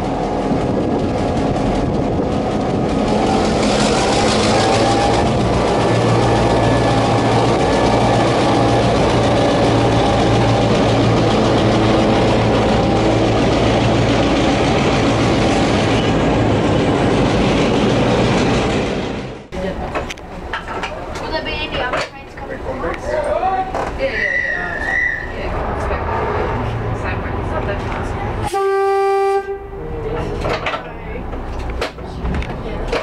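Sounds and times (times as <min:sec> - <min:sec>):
diesel locomotive engine drone: 0:00.0 - 0:24.1, 0:24.7 - 0:33.0.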